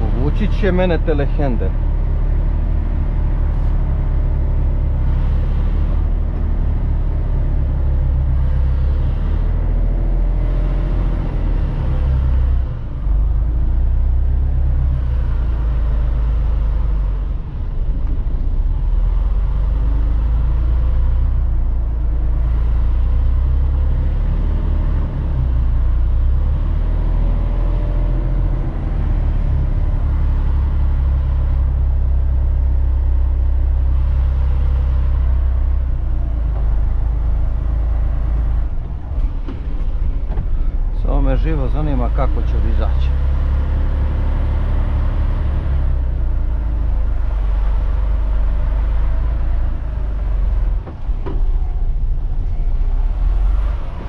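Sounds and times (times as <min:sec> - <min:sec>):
diesel truck engine rumbling: 0:00.0 - 0:54.0.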